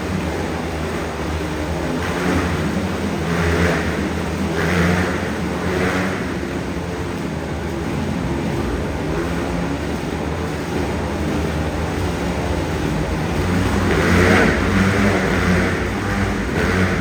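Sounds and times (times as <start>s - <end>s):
motorcycle engines droning: 0.0s - 17.0s.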